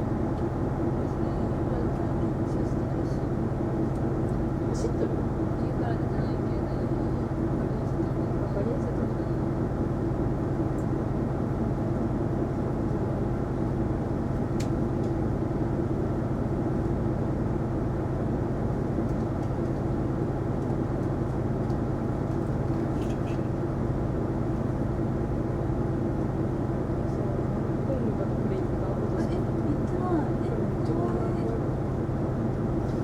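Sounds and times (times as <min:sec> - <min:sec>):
bus engine drone: 0:00.0 - 0:33.0.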